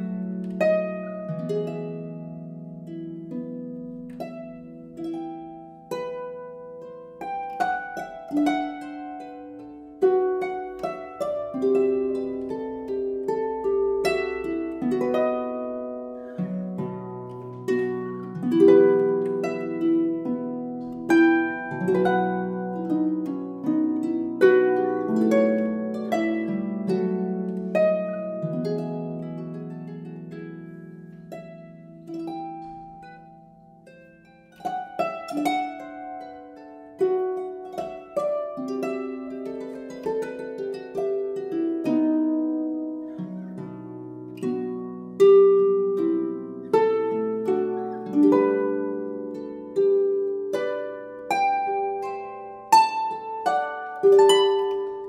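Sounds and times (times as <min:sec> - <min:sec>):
slow plucked string music: 0:00.0 - 0:55.0.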